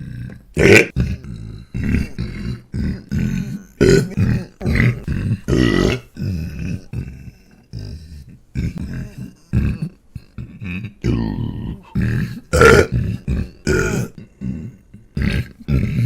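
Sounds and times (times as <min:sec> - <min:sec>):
man burping: 0:00.0 - 0:08.0, 0:08.6 - 0:16.0.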